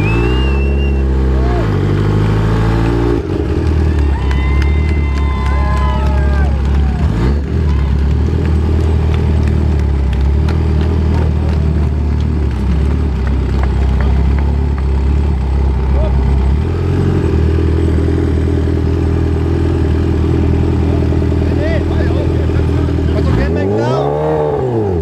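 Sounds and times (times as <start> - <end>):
motorcycle engine at low revs: 0.0 - 4.1, 6.6 - 25.0.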